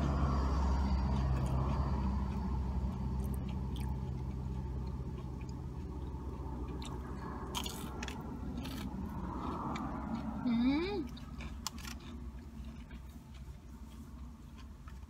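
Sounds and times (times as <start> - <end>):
person chewing and crunching food: 0.0 - 15.0
traffic rumble: 0.0 - 15.0.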